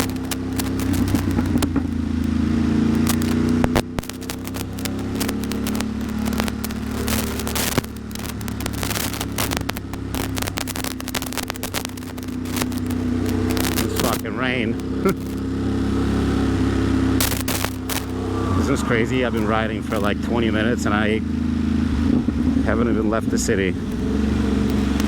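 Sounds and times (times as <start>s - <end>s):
raindrops hitting microphone: 0.0s - 22.1s, 23.8s - 25.0s
motorcycle engine running: 0.0s - 25.0s.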